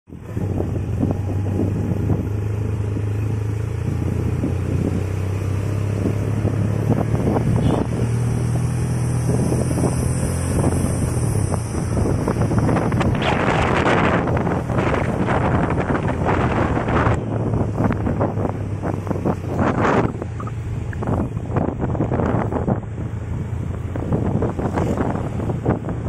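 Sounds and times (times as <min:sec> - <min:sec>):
wind buffeting microphone: 0:00.1 - 0:26.0.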